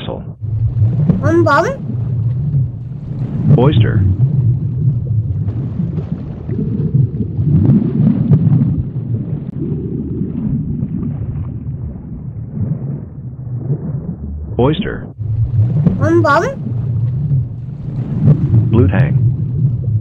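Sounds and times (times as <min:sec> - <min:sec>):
underwater rumbling and rushing: 0:00.4 - 0:01.2, 0:01.8 - 0:15.9, 0:16.6 - 0:20.0.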